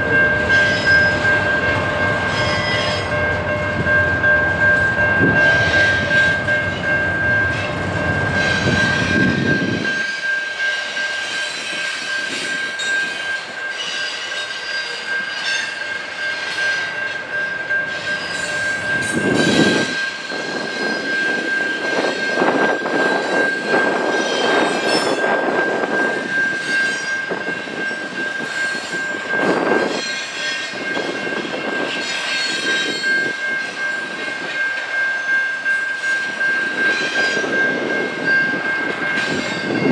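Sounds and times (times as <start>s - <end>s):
wheels clicking on rail joints: 0.0s - 39.9s.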